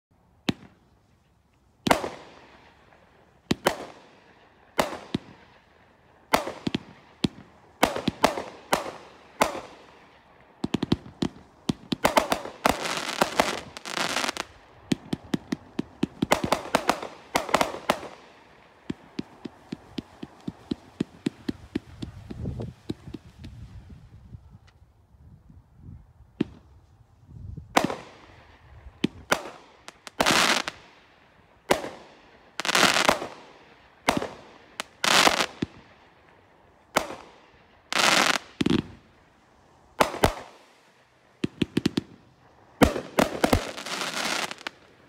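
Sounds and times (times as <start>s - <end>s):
firework shots: 0.4s - 0.9s, 1.8s - 24.8s, 26.4s - 26.8s, 27.7s - 39.2s, 39.9s - 45.0s
firework crackling: 0.4s - 24.9s, 27.6s - 45.0s.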